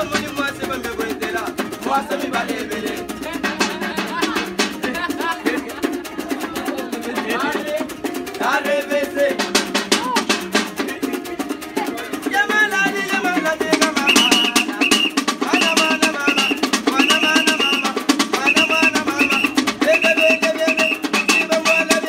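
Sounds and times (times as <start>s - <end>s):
fast hand drumming: 0.0s - 22.0s.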